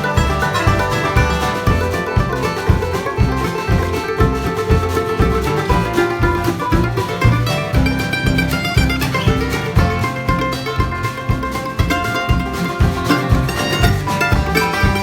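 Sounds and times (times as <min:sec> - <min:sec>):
plucked guitar: 0:00.0 - 0:15.0
steady low beat: 0:00.0 - 0:15.0.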